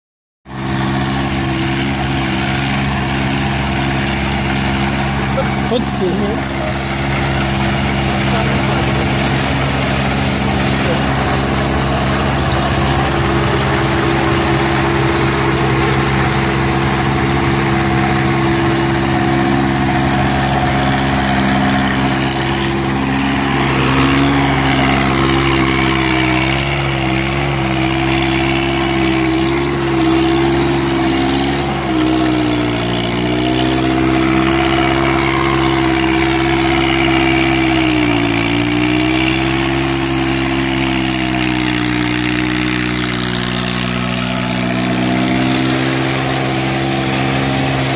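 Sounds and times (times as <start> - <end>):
tractor diesel engine under load: 0.4 - 47.9.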